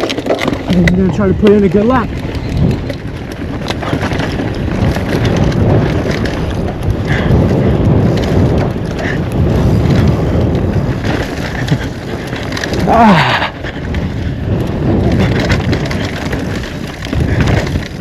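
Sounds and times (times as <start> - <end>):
bike knocking and rattling: 0.0 - 18.0
tyres rolling over dirt and rocks: 0.0 - 18.0
wind rushing over microphone: 0.0 - 18.0.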